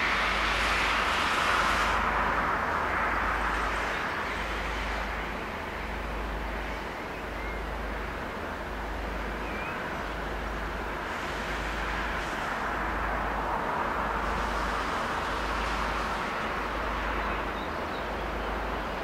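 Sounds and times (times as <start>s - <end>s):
distant vehicle rumble and hiss: 0.0s - 19.0s.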